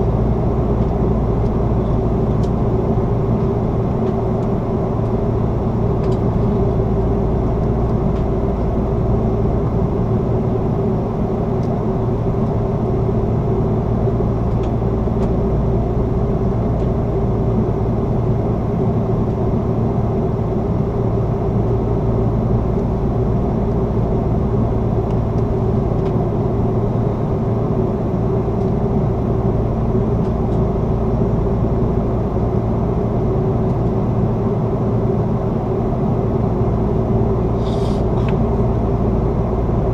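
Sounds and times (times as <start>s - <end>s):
constant mid-pitched hum: 0.0s - 39.9s
jet engines: 0.0s - 39.9s.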